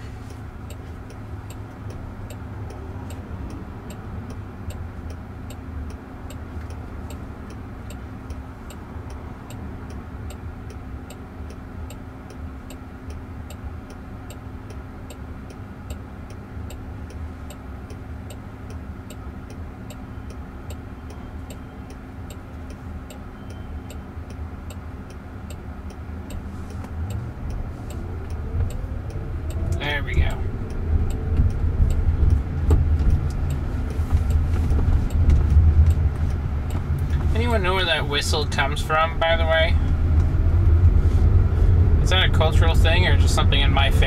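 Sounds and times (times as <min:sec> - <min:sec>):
steady low hum: 0:00.0 - 0:44.0
car turn signal ticking: 0:00.2 - 0:44.0.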